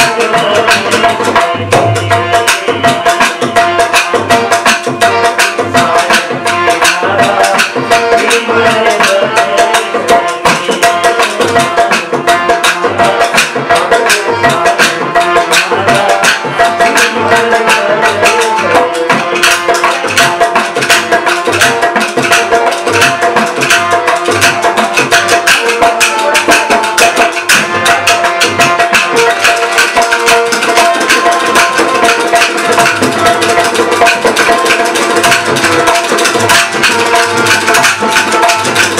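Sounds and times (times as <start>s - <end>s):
hand drum rhythm: 0.0s - 38.9s
harmonium steady notes: 0.0s - 38.9s.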